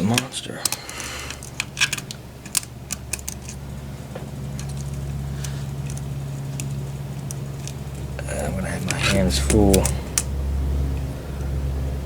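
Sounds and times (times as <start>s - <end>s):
lock picks clicking in a padlock: 0.0s - 3.8s, 4.4s - 10.4s
steady low hum: 0.0s - 12.0s.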